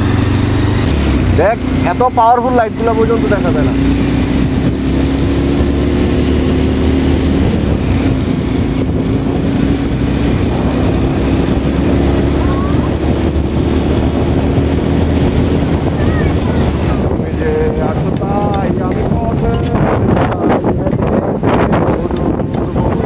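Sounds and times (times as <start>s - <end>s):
road and wind noise: 0.0s - 23.0s
vehicle engine hum: 0.0s - 23.0s.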